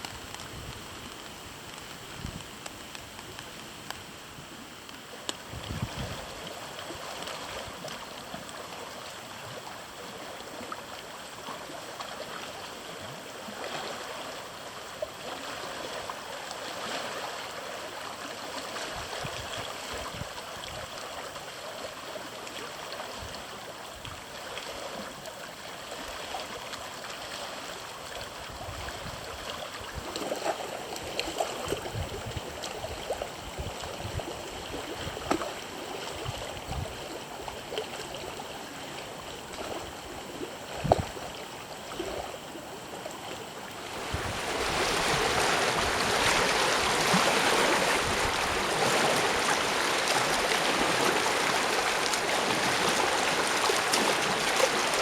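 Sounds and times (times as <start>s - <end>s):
water splashes: 0.0s - 55.0s
lake waves lapping: 5.2s - 55.0s.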